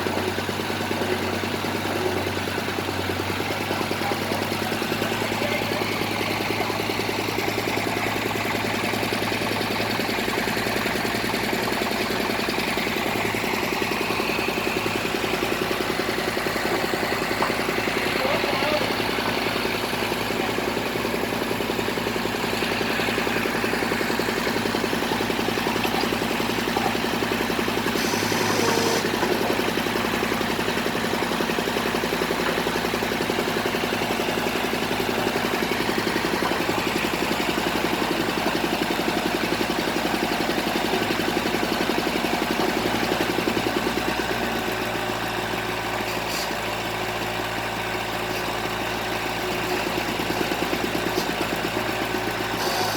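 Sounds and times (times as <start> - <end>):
drilling rig engine running: 0.0 - 52.9.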